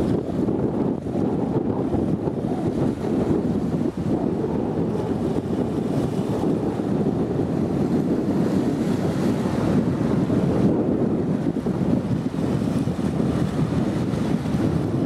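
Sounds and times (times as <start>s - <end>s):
choppy river water: 0.0s - 15.0s
wind buffeting microphone: 0.0s - 15.0s.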